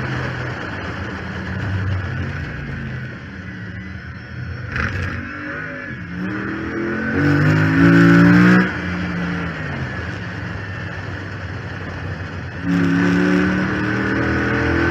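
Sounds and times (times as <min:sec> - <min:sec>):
car engine accelerating hard: 0:00.0 - 0:14.9
high whine: 0:00.0 - 0:14.9.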